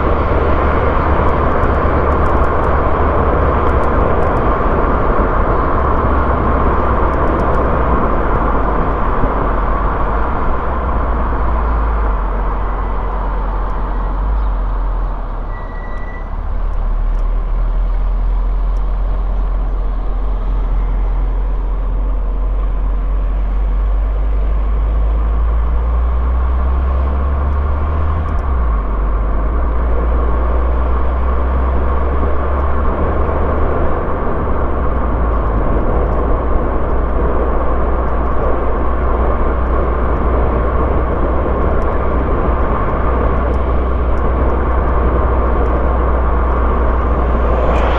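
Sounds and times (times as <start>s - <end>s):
car engine: 0.0s - 47.9s.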